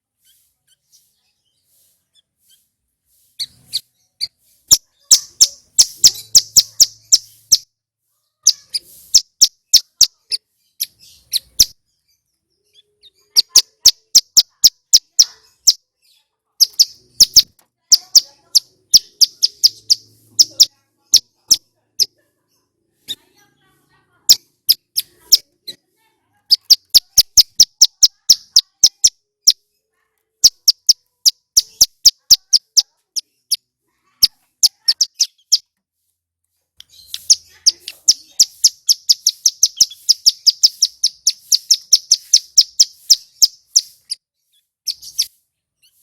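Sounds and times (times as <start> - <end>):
bird chirping and trilling: 0.2 - 23.6, 24.3 - 25.8, 26.5 - 29.8, 30.4 - 35.7, 36.8 - 46.0.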